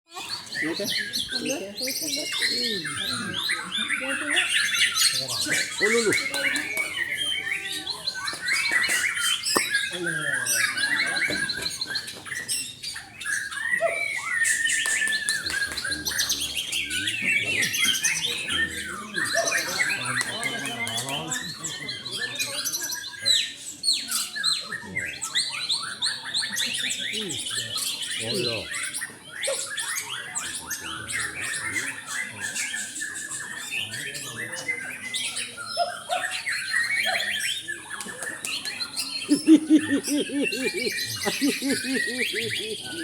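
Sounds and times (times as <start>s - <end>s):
bird singing whistles and trills: 0.1s - 43.0s
songbird harsh chatter: 0.1s - 43.0s.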